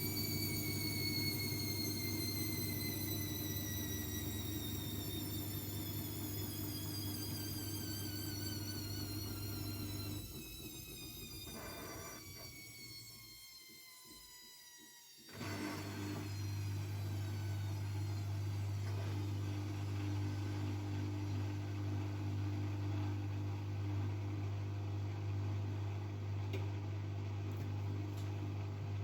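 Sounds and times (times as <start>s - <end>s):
washing machine motor whine: 0.0s - 29.0s.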